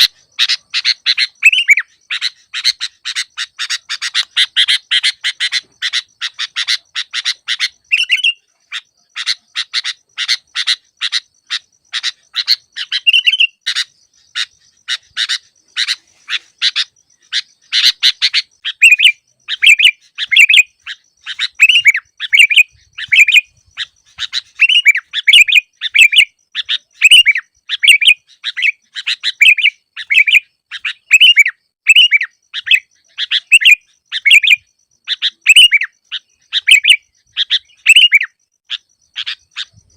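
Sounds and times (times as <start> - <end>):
bird whistled phrases: 0.0 - 39.9.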